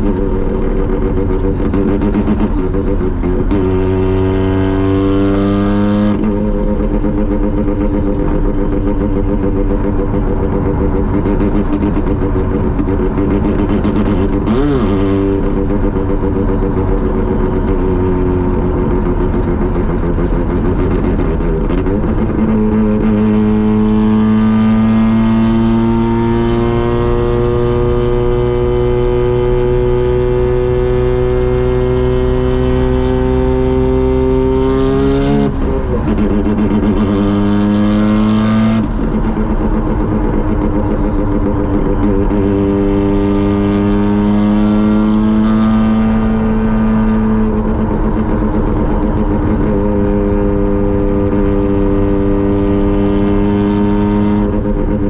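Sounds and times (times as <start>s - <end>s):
car engine and exhaust: 0.0s - 55.0s.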